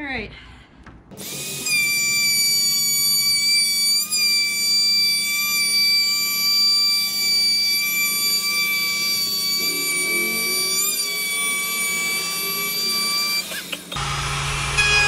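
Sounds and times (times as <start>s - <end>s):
electric sander whining: 1.2s - 15.0s.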